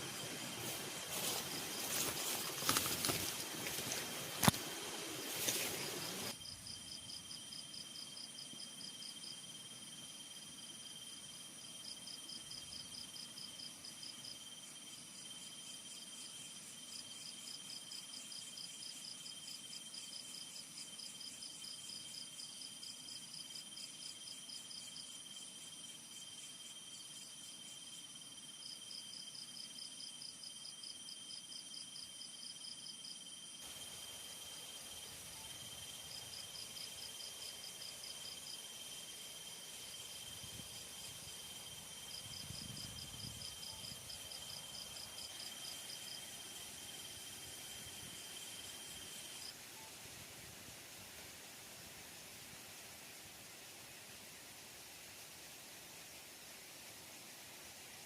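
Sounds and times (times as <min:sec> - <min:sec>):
fast pulsing insect trill: 0:00.0 - 0:49.9
insects chirring high tones: 0:00.0 - 0:50.4.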